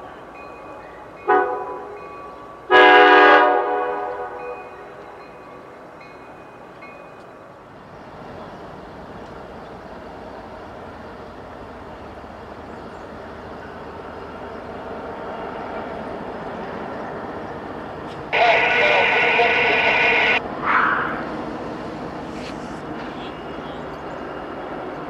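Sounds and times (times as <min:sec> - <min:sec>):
diesel locomotive rumbling: 0:00.0 - 0:25.0
wheels on rail: 0:03.8 - 0:25.0.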